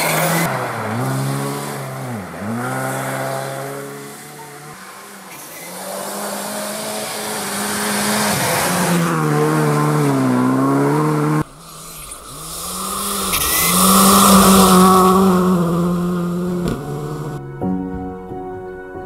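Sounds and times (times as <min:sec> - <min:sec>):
rally car engine revving: 0:00.0 - 0:17.5.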